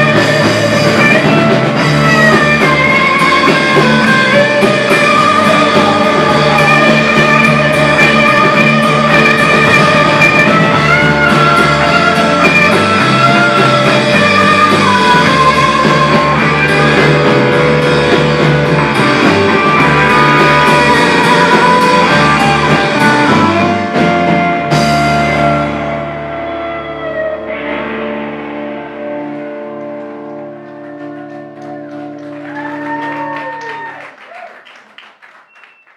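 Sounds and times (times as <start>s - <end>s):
electric guitars: 0.0s - 34.2s
drum kit: 0.0s - 34.4s.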